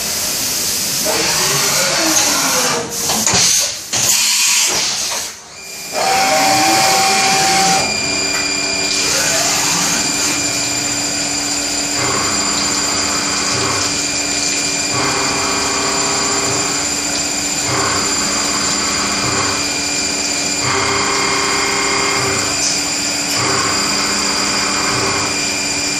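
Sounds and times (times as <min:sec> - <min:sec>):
cutter machining metal: 0:00.0 - 0:25.9
milling machine spindle whining: 0:01.0 - 0:03.2, 0:03.9 - 0:25.9.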